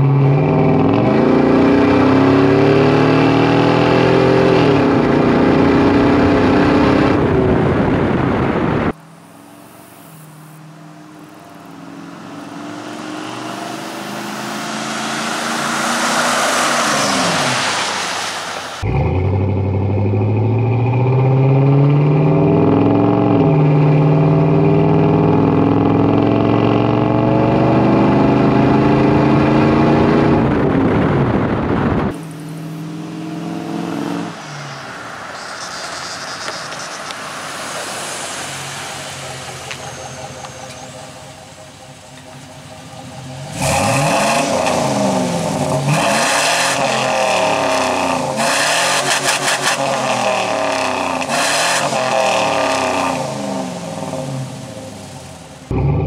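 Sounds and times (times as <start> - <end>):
truck exhaust revving: 0.0 - 9.0, 10.2 - 56.0.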